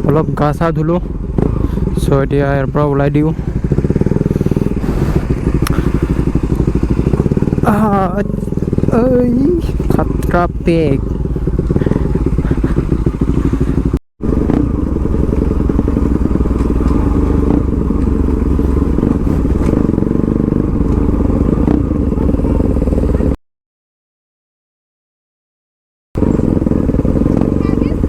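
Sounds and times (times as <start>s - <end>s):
motorcycle engine running: 0.0s - 23.4s, 26.2s - 28.0s.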